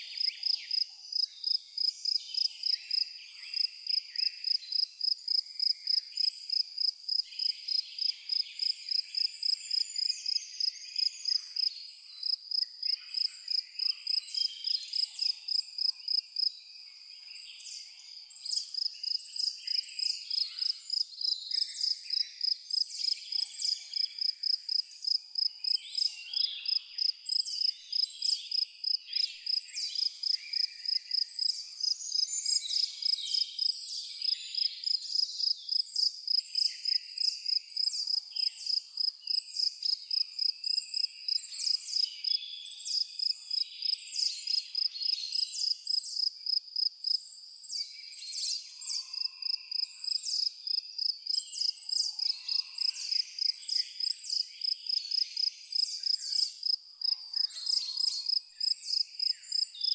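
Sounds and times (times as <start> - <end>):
cricket chirping: 0.2 - 17.2, 18.5 - 47.9, 48.9 - 59.9.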